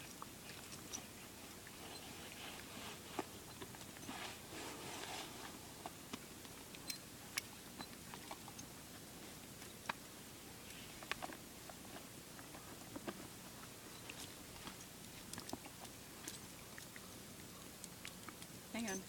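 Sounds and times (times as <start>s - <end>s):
soft rustle: 0.0s - 19.0s.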